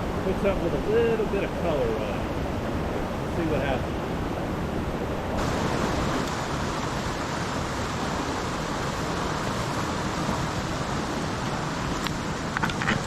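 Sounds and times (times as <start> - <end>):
mountain creek flowing: 0.0 - 13.0.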